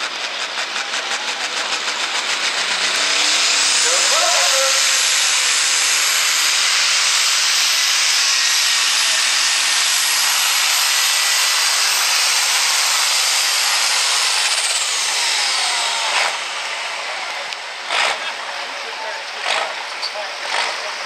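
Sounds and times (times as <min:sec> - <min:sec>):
diesel engine roaring with whine: 0:00.0 - 0:21.0.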